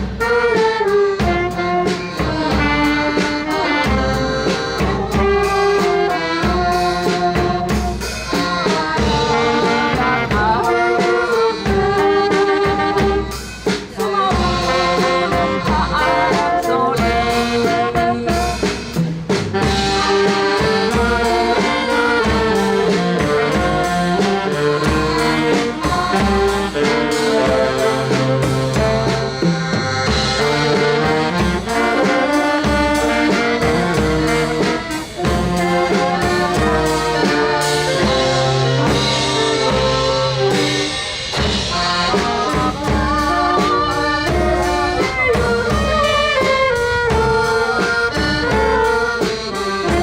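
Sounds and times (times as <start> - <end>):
wind band playing: 0.0 - 50.0.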